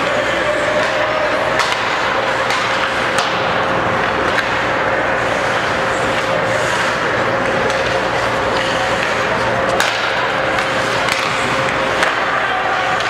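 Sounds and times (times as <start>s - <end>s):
hockey sticks and puck clacking: 0.0s - 13.0s
skates and arena noise: 0.0s - 13.0s.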